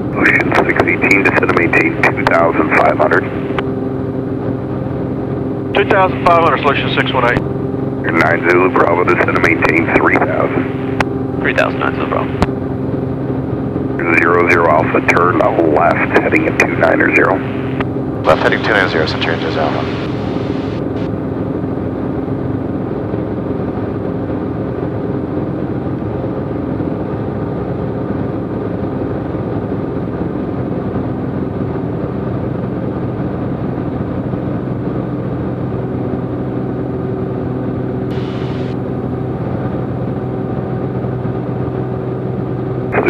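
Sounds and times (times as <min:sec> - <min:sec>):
propeller plane engine droning: 0:00.0 - 0:43.0.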